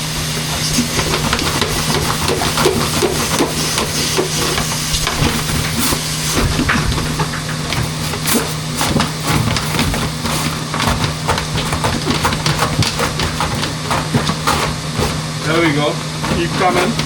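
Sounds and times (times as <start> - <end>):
brush rattling in duct: 0.0 - 17.0
vacuum running: 0.0 - 17.0.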